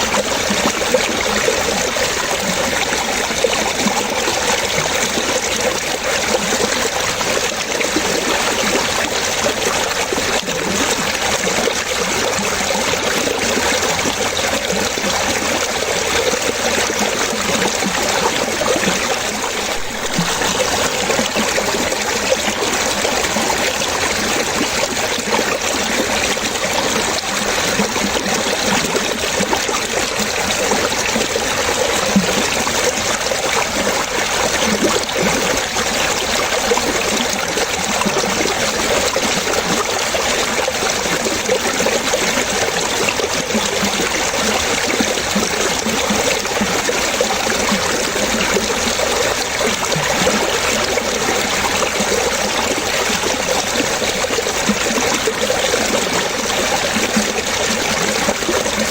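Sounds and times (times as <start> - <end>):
running water trickling: 0.0 - 58.9.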